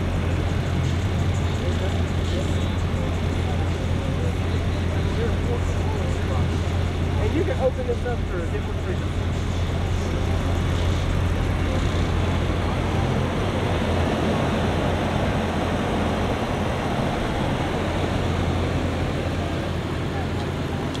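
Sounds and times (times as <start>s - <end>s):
subwoofer bass tone: 0.0s - 21.0s.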